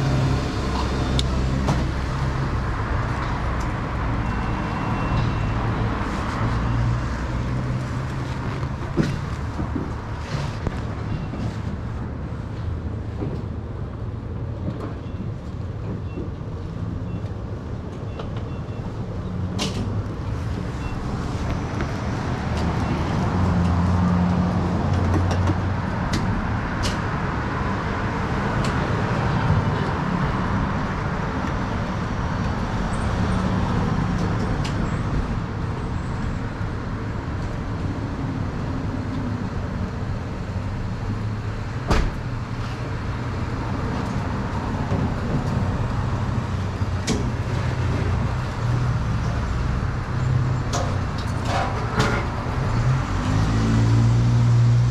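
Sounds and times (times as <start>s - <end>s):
traffic noise: 0.0s - 54.9s.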